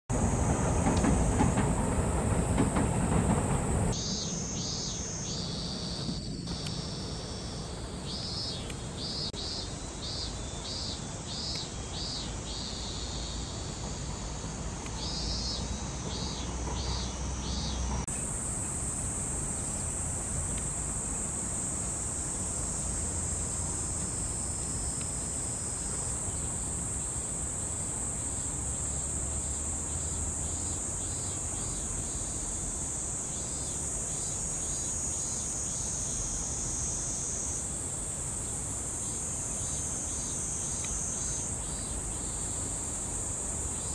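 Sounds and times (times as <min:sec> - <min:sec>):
high-pitched insect chorus: 0:00.1 - 0:43.9
short insect chirps: 0:03.9 - 0:43.9.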